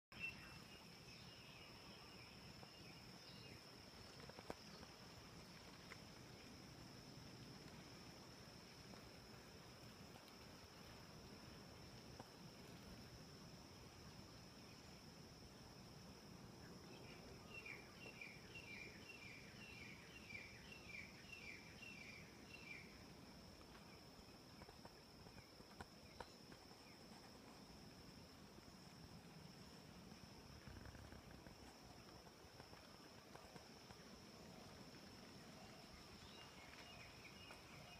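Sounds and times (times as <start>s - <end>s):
high-pitched insect trill: 0.2s - 37.9s.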